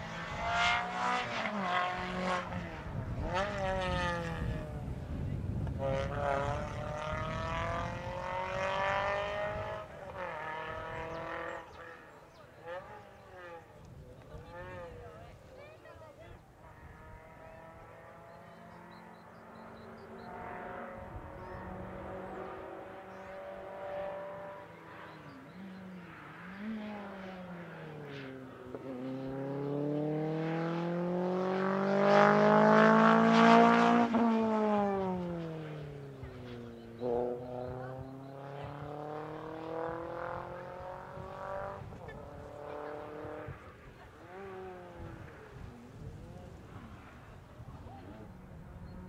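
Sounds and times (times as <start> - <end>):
rally car engine at full throttle: 0.0 - 49.0.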